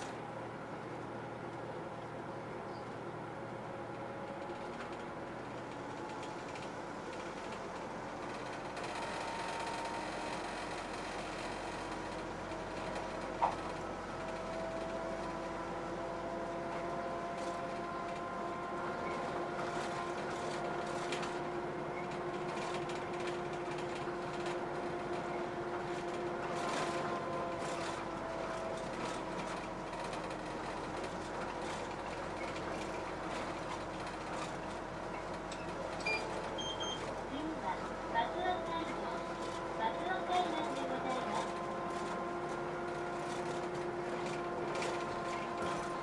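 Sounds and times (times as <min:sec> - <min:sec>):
bus engine humming with whine: 0:00.0 - 0:46.0.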